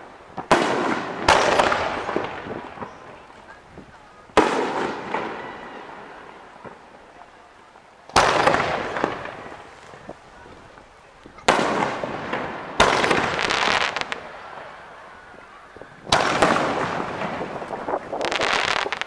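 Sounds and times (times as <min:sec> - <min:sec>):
fireworks bursting with rumble: 0:00.0 - 0:19.0.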